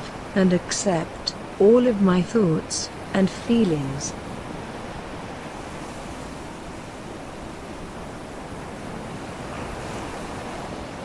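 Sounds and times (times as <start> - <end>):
ocean waves washing onto beach: 0.0 - 11.0.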